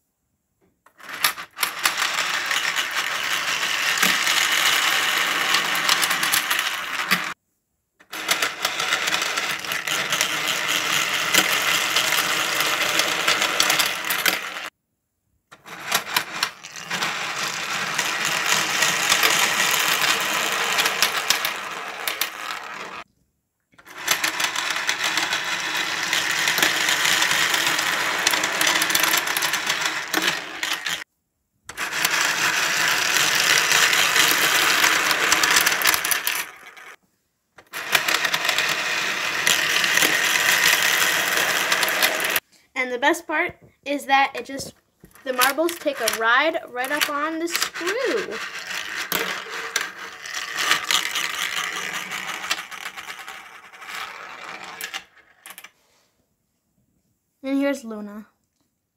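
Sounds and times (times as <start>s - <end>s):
marbles rattling through plastic machine: 0.9s - 7.4s, 8.0s - 14.7s, 15.6s - 23.0s, 23.8s - 31.1s, 31.7s - 37.0s, 37.6s - 42.4s, 44.4s - 55.7s.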